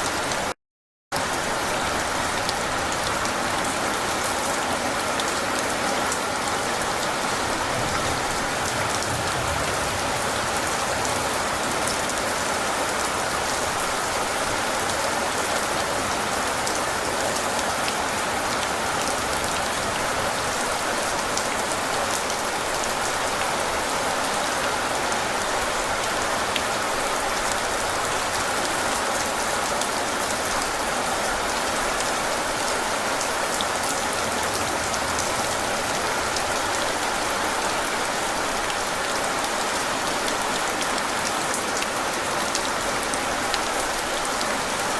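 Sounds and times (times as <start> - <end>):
heavy rain falling: 1.2 - 44.9.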